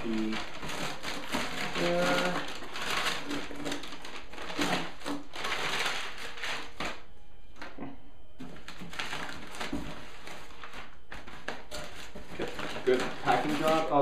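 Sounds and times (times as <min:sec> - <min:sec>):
paper packing rustling: 0:00.0 - 0:07.8, 0:08.4 - 0:14.0.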